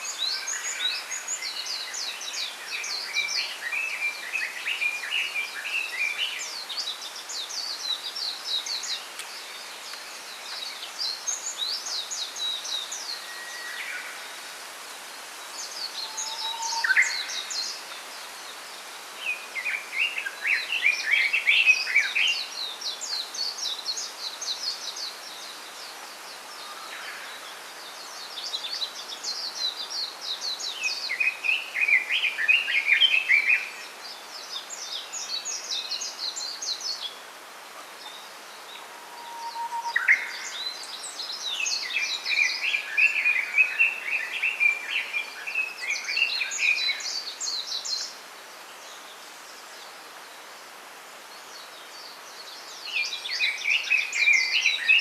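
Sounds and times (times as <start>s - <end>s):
small songbirds twittering: 0.0s - 55.0s
steady background hiss: 0.0s - 55.0s.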